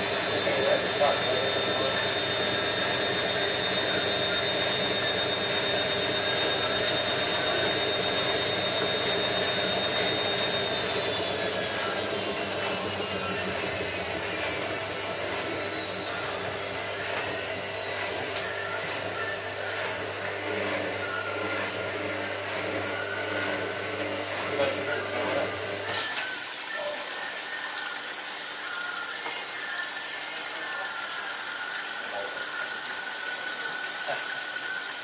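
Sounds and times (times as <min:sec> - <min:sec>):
washing machine spinning whine: 0:00.0 - 0:35.0.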